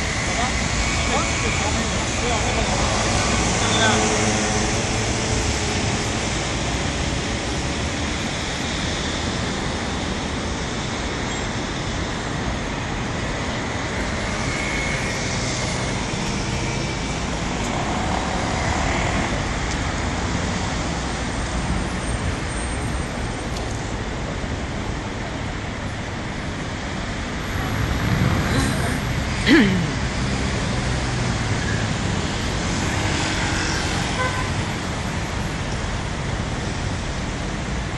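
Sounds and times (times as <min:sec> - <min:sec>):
road traffic passing: 0:00.0 - 0:37.9.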